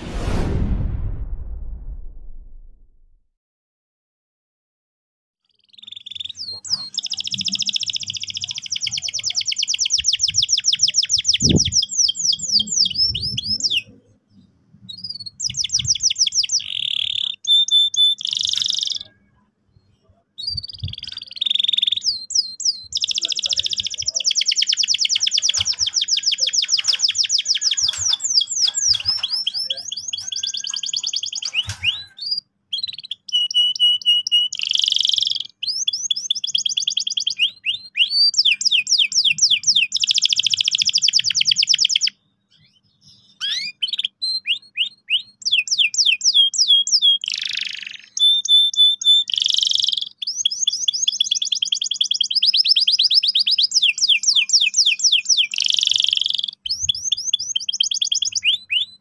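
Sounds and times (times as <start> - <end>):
canary singing trills: 5.4 - 59.0.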